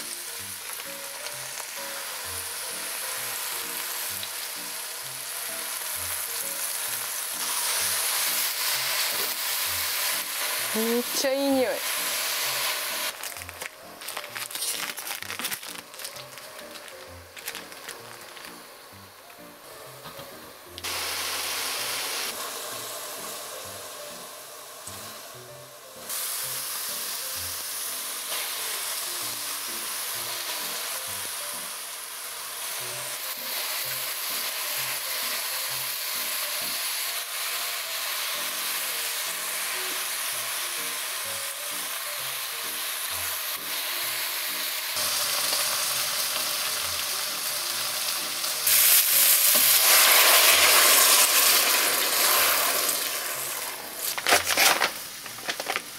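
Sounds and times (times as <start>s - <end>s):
food sizzling in oil: 0.0s - 20.0s, 20.6s - 55.9s
soft background music: 0.0s - 55.9s.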